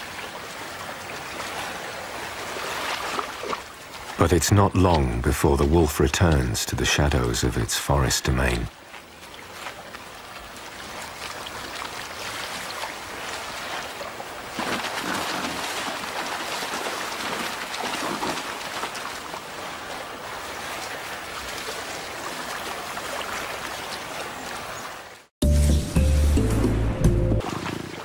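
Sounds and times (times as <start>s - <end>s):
river running over stones: 0.0s - 6.4s, 7.9s - 25.3s.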